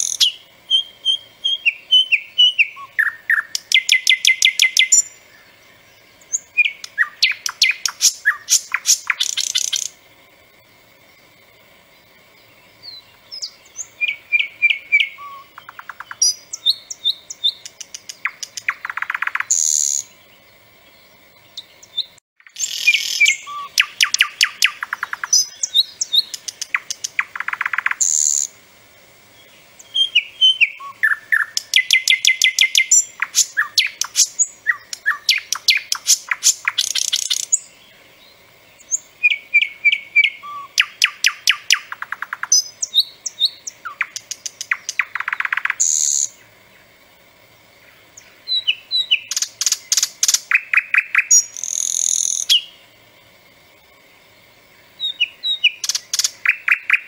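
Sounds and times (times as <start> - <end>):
nightingale singing: 0.0 - 28.6, 29.3 - 57.0.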